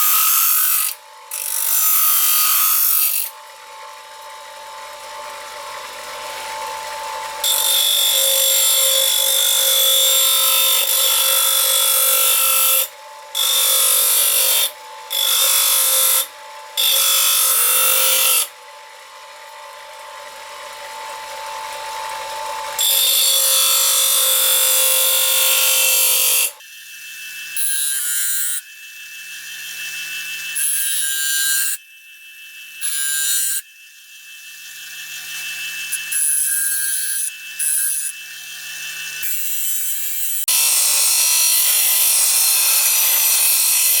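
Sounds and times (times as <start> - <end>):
bench grinder whine: 0.0 - 31.5, 34.4 - 44.0.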